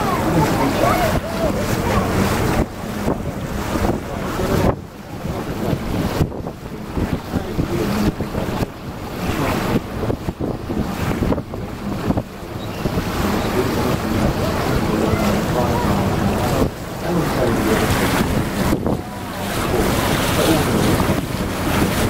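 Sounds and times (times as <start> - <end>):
boat engine: 0.0 - 22.0
water washing along hull: 0.0 - 22.0
wind gusting on microphone: 0.0 - 22.0.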